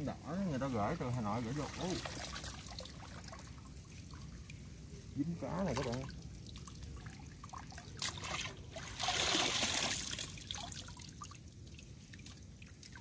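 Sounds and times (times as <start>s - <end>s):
water pouring and trickling: 0.4s - 13.0s
water splashing: 0.6s - 4.6s, 5.2s - 13.0s.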